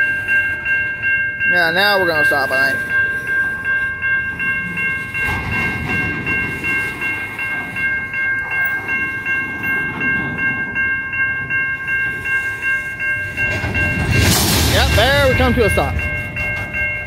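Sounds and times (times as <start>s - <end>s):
electronic crossing bell ringing: 0.0s - 17.0s
train cars rumbling past: 0.0s - 17.0s.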